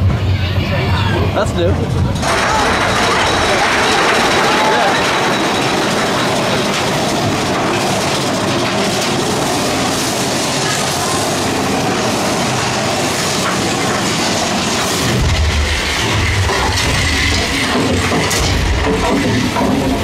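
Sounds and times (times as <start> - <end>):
deep rumble: 0.0 - 20.0
roller coaster wheels on rail: 0.0 - 20.0.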